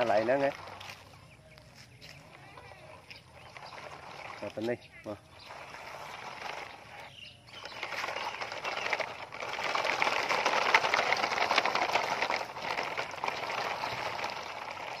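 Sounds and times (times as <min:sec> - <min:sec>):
toy truck wheels crunching gravel: 0:00.0 - 0:15.0.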